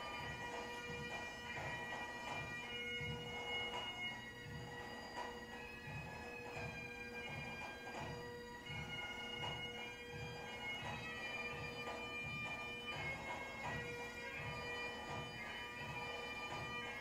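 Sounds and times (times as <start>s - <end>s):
bagpipe music: 0.0s - 17.0s.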